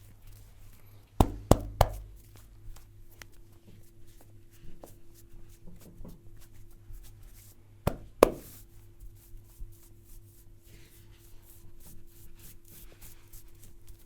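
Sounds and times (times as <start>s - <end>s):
hands rubbing: 0.2s - 5.6s, 6.4s - 14.0s.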